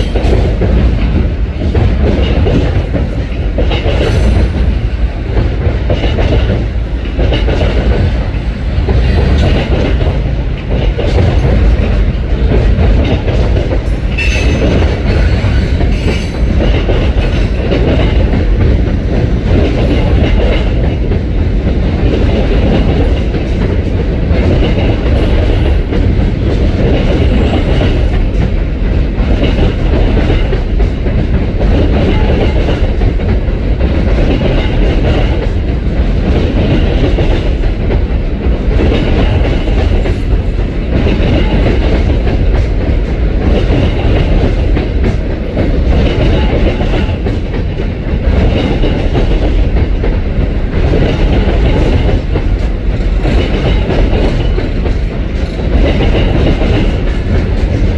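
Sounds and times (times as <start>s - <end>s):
freight train rumbling past: 0.0s - 57.9s
wheels clacking on rail joints: 0.0s - 57.9s.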